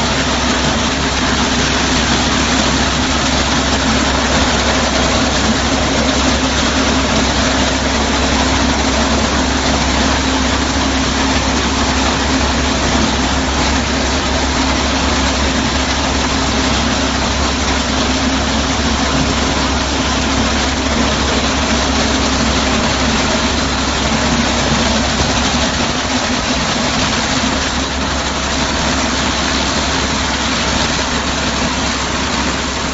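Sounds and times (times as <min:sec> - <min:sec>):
small tractor engine running: 0:00.0 - 0:32.9.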